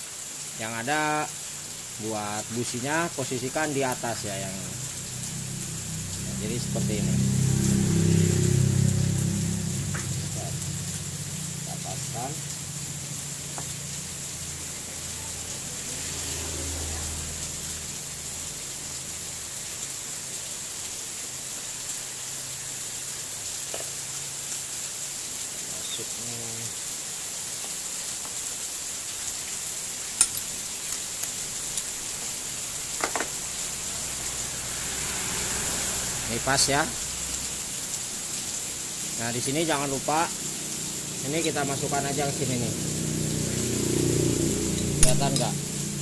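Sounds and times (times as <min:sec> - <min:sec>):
background hiss: 0:00.0 - 0:46.0.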